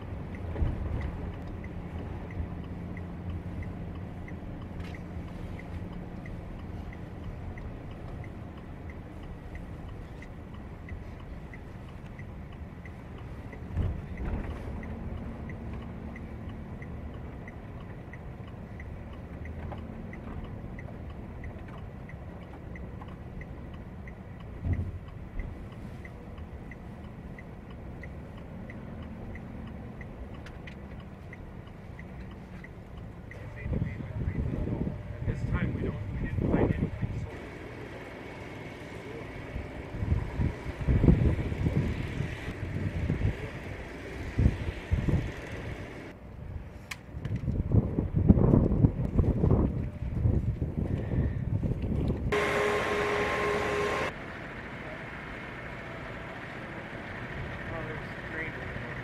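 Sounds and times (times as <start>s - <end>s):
turn signal ticking: 0.0s - 54.2s, 54.8s - 59.0s
engine and tyres rumbling: 0.0s - 59.0s.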